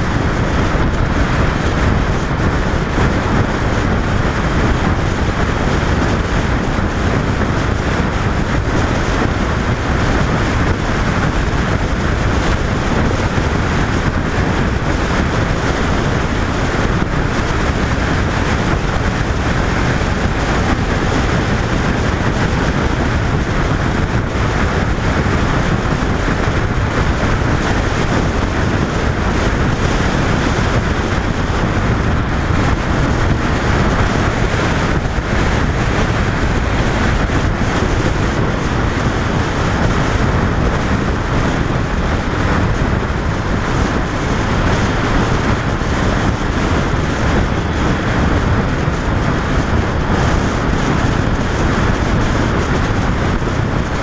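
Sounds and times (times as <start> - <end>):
motorcycle running noise: 0.0 - 54.0
wind buffeting microphone: 0.0 - 54.0.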